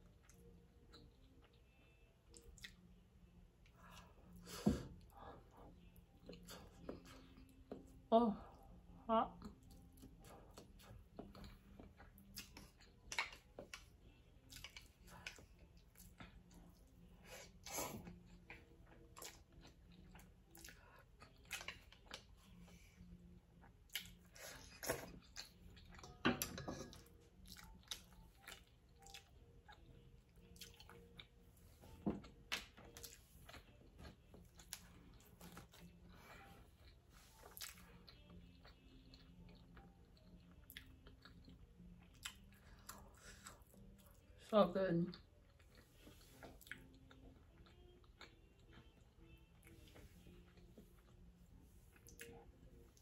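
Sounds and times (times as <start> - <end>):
chewing and lip smacks: 0.1 - 3.0, 9.4 - 26.2, 27.3 - 31.5, 32.2 - 44.4, 45.1 - 53.0.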